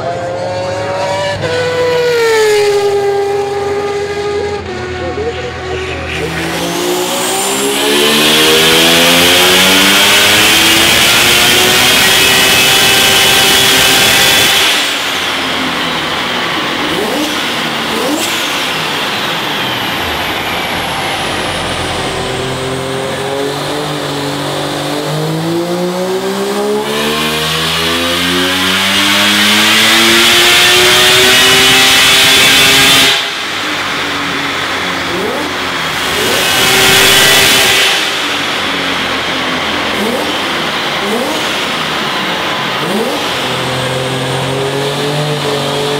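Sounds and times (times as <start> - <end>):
rotary engine revving: 0.0 - 45.9.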